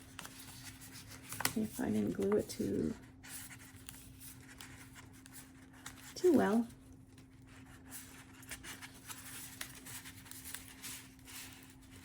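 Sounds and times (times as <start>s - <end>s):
paper rustling and tapping: 0.0s - 7.3s, 8.0s - 12.0s.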